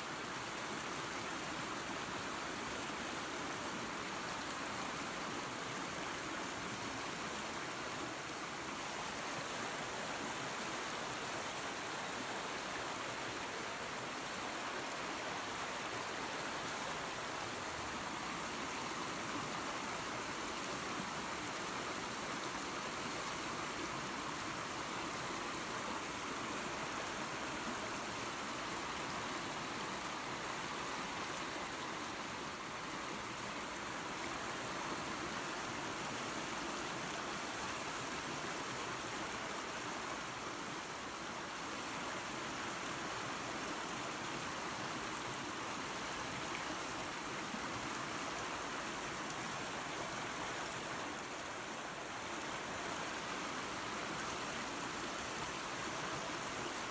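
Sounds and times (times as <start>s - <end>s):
waterfall and creek running: 0.0s - 56.9s.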